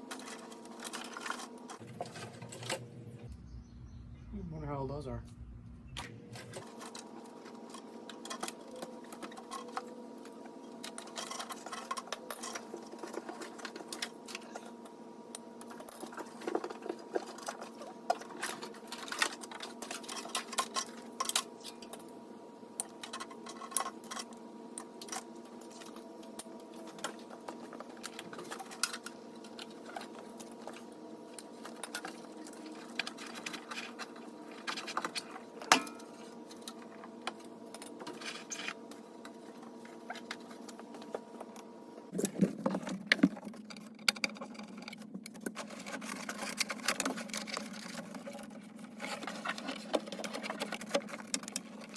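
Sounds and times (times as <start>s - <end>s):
tools and parts clicking and rattling: 0.0s - 2.9s, 6.3s - 22.2s, 22.8s - 41.5s, 42.1s - 51.9s
steady hum: 0.0s - 51.9s.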